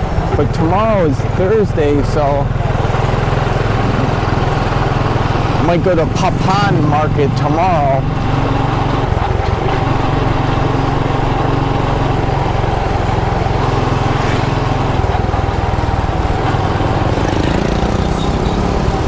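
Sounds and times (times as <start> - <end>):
road and wind noise: 0.0 - 19.0
small motorbike engine running: 0.0 - 19.0.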